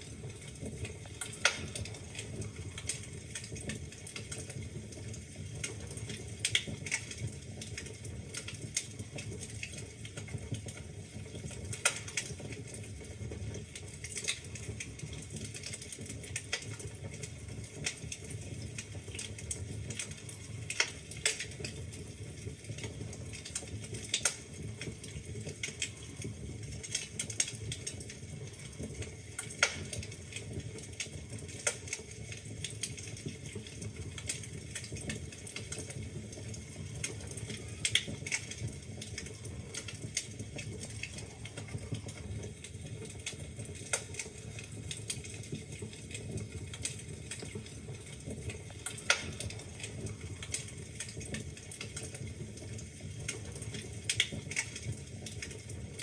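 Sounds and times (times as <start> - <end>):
fire rumbling: 0.0 - 56.0
logs crackling and popping: 0.0 - 56.0.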